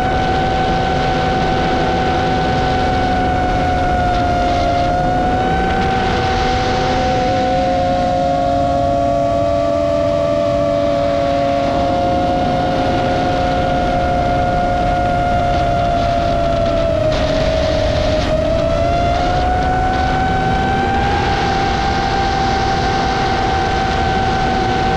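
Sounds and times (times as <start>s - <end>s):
drone motors whining: 0.0s - 24.9s.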